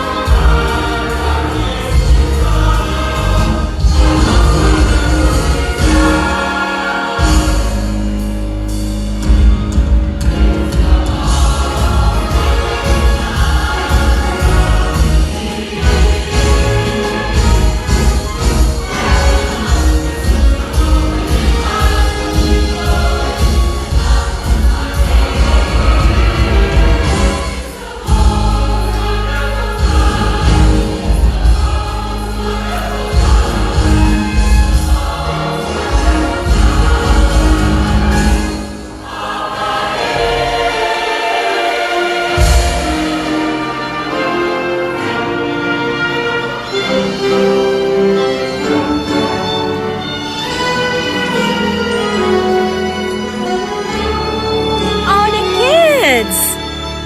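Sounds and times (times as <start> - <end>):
choir singing: 0.0 - 8.8, 10.2 - 56.9.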